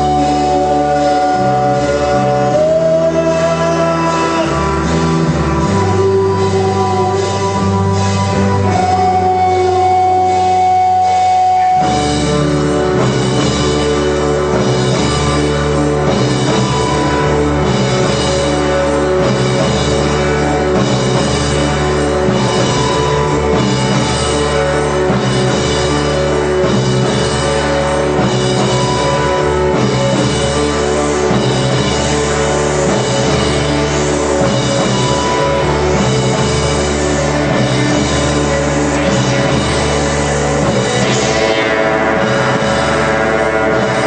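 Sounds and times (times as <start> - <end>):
bass: 0.0 - 44.0
drum kit: 0.0 - 44.0
guitars: 0.0 - 44.0.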